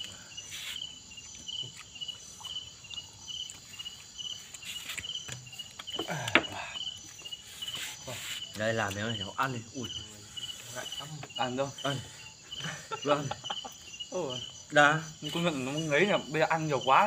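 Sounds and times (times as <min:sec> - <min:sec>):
crickets chirping: 0:00.0 - 0:17.0
high insect call pulsing: 0:00.0 - 0:17.0.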